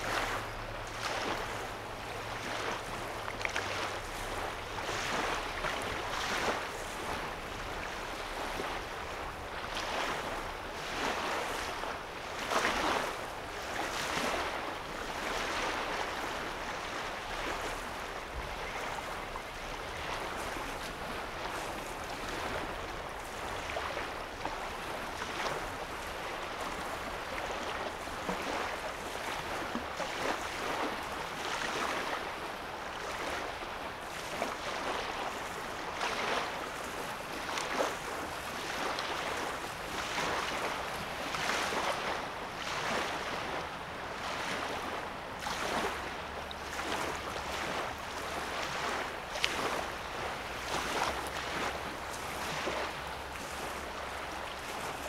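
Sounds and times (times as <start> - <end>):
small waves lapping at shore: 0.0 - 55.0.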